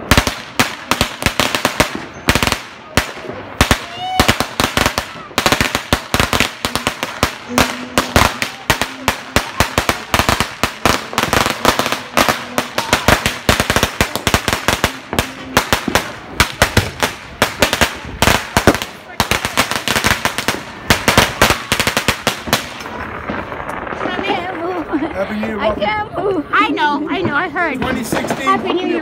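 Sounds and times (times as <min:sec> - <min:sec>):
firecrackers and fireworks bangs: 0:00.0 - 0:25.8, 0:27.0 - 0:29.0.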